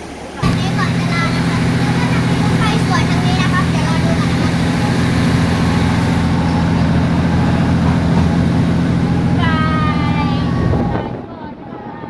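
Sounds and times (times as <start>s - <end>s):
diesel train drone: 0.0s - 12.0s
train passing alongside: 0.0s - 12.0s.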